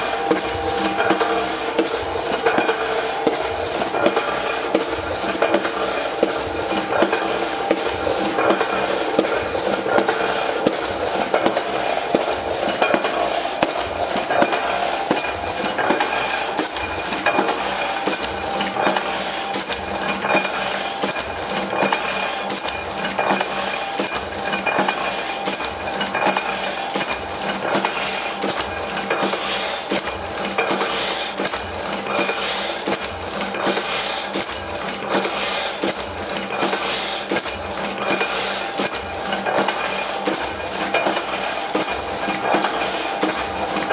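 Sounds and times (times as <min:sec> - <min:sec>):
letterpress mechanical clatter: 0:00.0 - 0:43.9
steady machine hum: 0:00.0 - 0:43.9.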